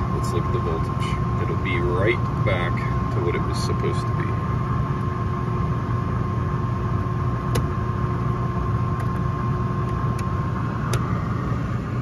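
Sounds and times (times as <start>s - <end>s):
low mechanical hum: 0.0s - 12.0s
thin steady whine: 0.0s - 12.0s.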